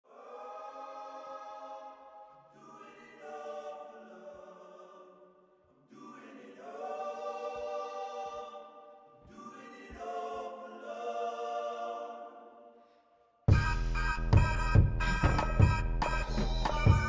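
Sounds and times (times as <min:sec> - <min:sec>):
choir-like held chords: 0:00.1 - 0:17.0.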